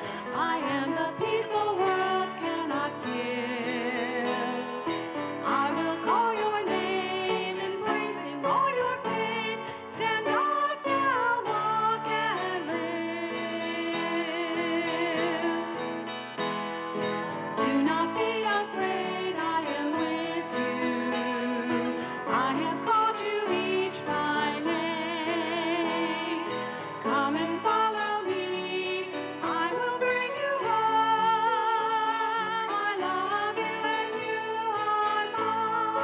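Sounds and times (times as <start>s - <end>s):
woman singing with vibrato: 0.0s - 15.9s, 17.5s - 36.0s
acoustic guitar: 0.0s - 36.0s.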